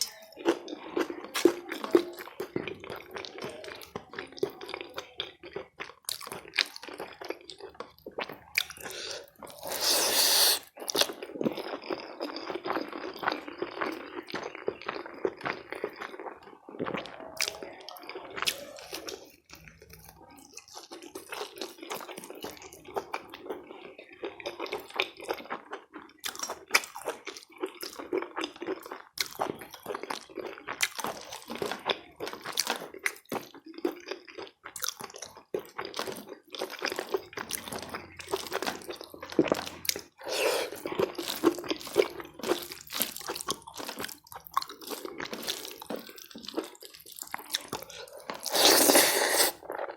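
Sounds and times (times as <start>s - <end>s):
chewing with wet smacks: 0.0s - 10.0s, 10.6s - 49.9s.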